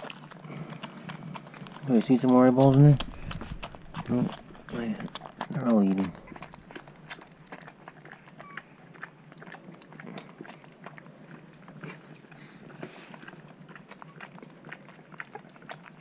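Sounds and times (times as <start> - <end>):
puppies suckling: 0.0 - 16.0.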